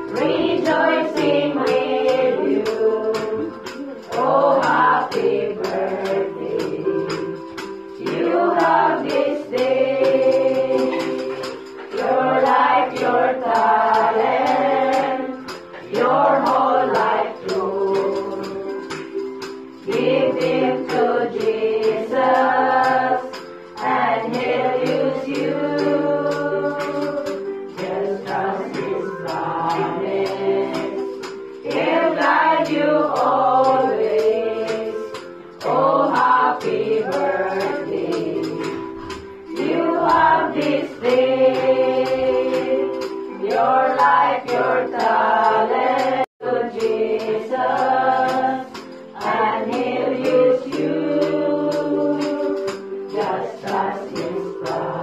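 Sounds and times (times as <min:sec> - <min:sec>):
group singing gospel: 0:00.0 - 0:55.0
instrumental accompaniment: 0:00.0 - 0:55.0.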